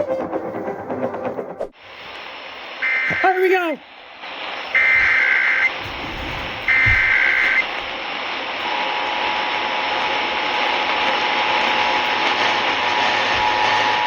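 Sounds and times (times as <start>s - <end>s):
radio static hiss: 1.8s - 14.0s.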